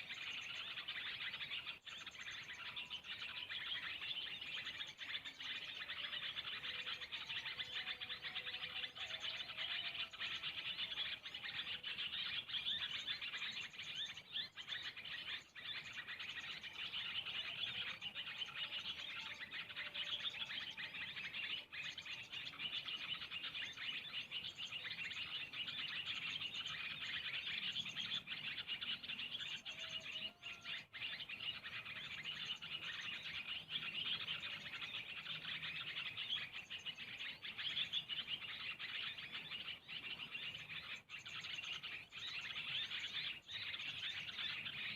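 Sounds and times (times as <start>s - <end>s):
lower whistled bird calls: 0.0s - 44.9s
small birds chirping: 0.0s - 44.9s.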